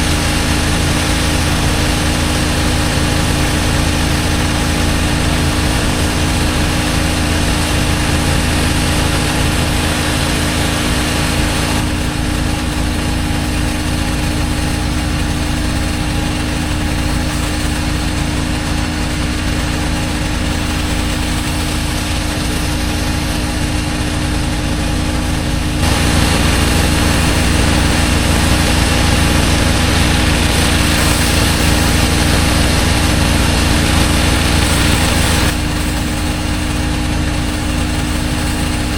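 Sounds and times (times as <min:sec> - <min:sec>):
high-pressure spray hissing: 0:00.0 - 0:38.9
pressure washer engine humming: 0:00.0 - 0:38.9.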